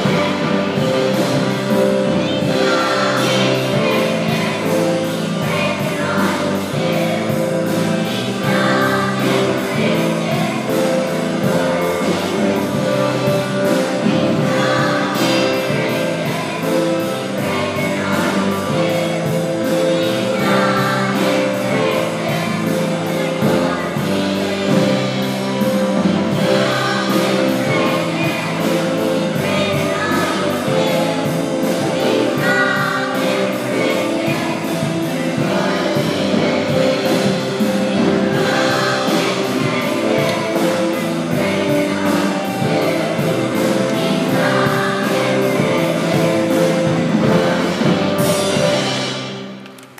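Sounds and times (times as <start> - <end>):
children's choir singing: 0.0 - 49.7
musical accompaniment with beat: 0.0 - 49.9.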